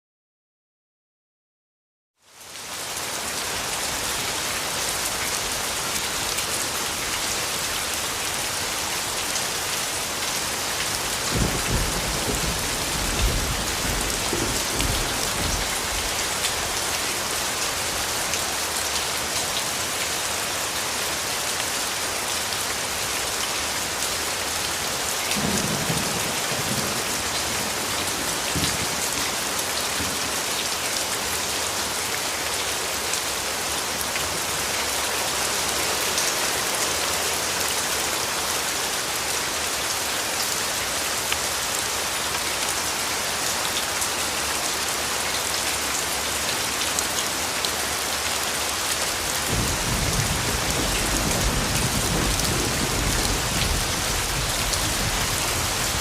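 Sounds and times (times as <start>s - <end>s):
heavy rain: 2.2s - 56.0s.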